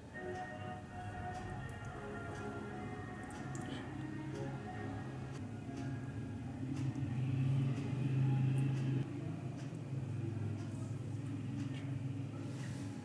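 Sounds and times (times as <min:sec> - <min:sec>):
soft low background music: 0:00.0 - 0:13.0.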